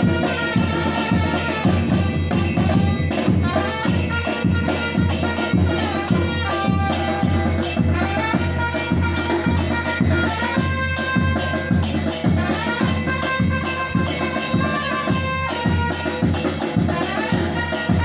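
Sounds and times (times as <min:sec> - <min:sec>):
deep drum beats: 0:00.0 - 0:18.0.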